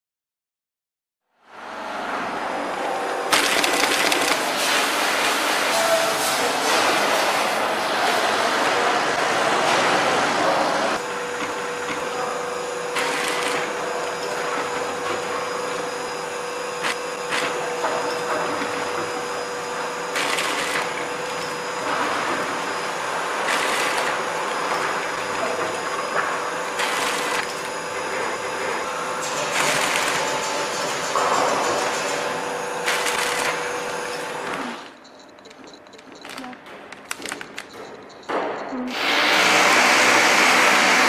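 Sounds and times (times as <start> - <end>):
packing machine whirr and clatter: 2.5 - 41.0.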